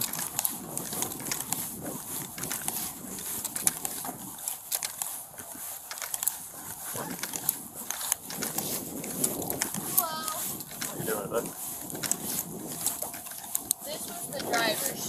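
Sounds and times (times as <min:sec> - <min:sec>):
footsteps on concrete: 0:00.0 - 0:15.0
gear clicking and rubbing: 0:00.0 - 0:15.0.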